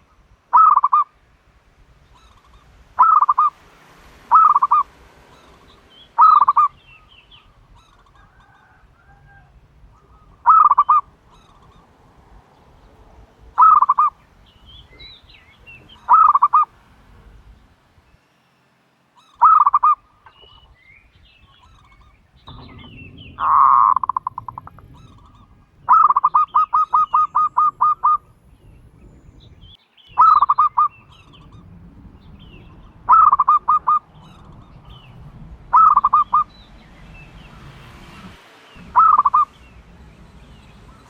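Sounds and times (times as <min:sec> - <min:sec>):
turtle dove calling: 0:00.0 - 0:17.7, 0:19.2 - 0:41.0.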